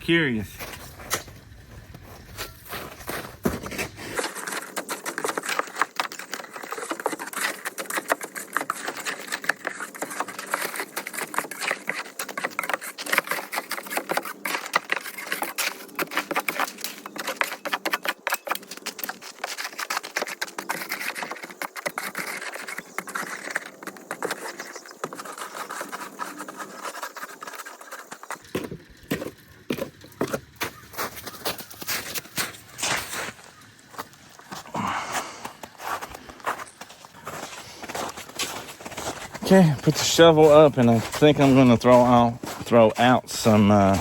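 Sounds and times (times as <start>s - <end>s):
shovel scraping ice: 0.4s - 34.8s, 35.4s - 44.0s.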